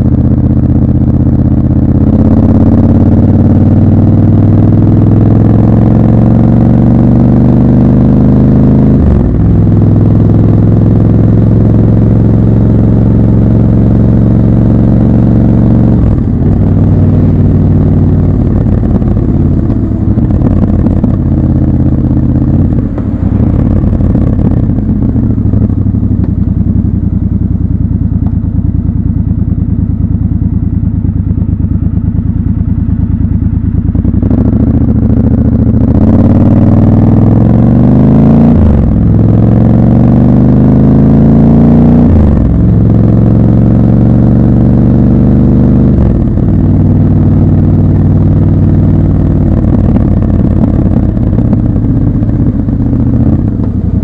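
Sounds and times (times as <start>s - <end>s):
motorcycle engine and exhaust: 0.0s - 54.0s.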